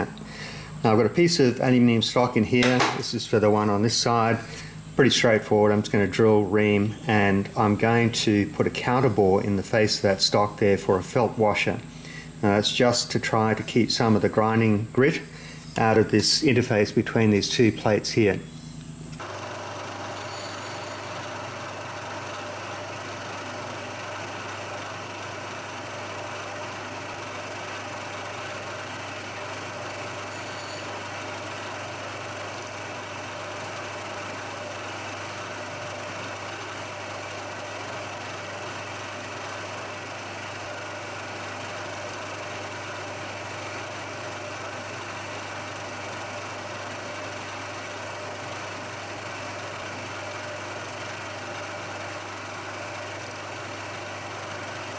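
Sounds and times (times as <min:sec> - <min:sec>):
milling machine humming: 0:00.0 - 0:54.9.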